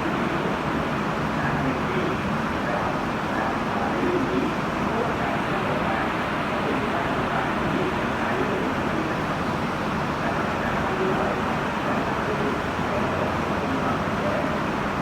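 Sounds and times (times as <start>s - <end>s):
faint indistinct voices: 1.3s - 9.4s, 10.1s - 15.0s.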